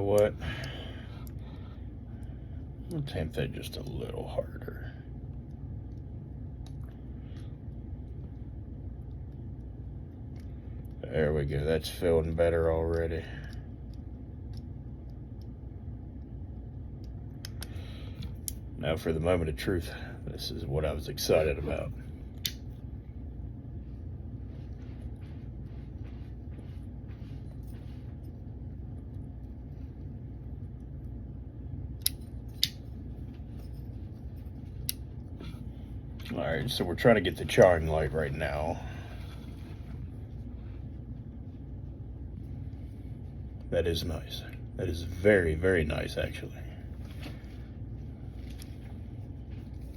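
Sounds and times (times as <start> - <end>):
steady low hum: 0.0 - 49.9
steady low rumble: 0.0 - 49.9.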